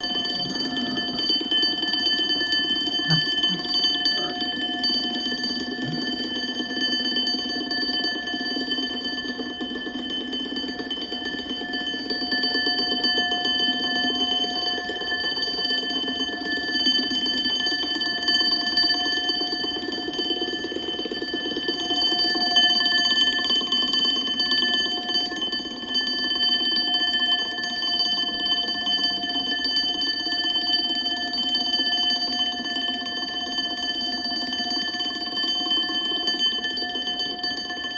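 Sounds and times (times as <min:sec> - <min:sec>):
alarm clock bell ringing: 0:00.0 - 0:37.9.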